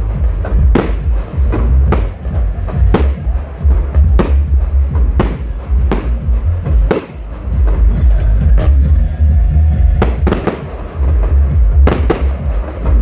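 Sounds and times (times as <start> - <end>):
fireworks bursting: 0.0 - 8.2, 9.9 - 13.0
loud music with heavy bass: 0.0 - 13.0.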